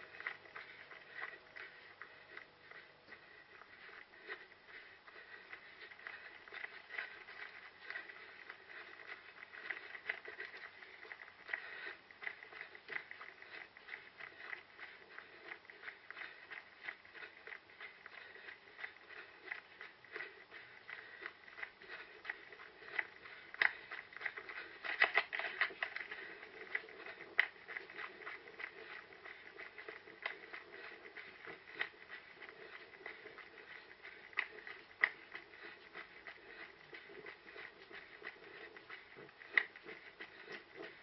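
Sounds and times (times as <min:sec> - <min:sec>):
running footsteps on rough ground: 0:00.0 - 0:41.0.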